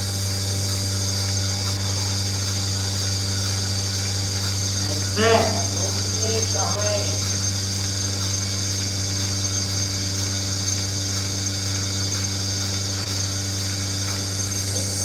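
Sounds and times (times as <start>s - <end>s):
milking machine motor hum: 0.0s - 15.0s.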